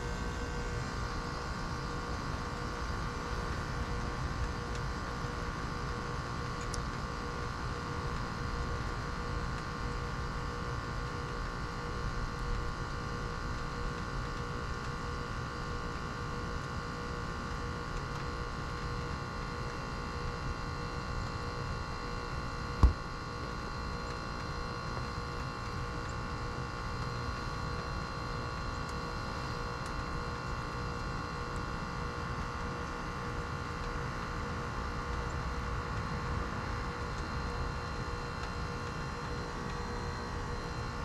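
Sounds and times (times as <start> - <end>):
heat pump unit humming: 0.0 - 41.0.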